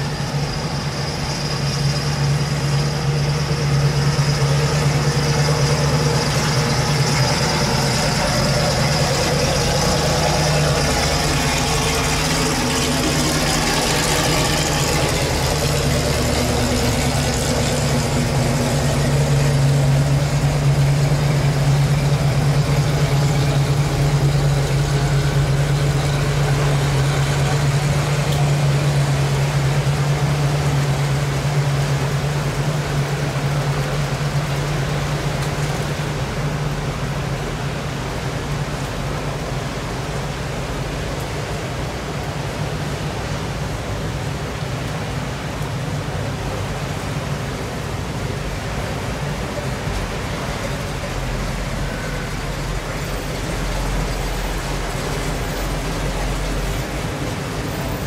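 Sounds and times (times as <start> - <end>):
car engines cruising past: 0.0 - 58.0.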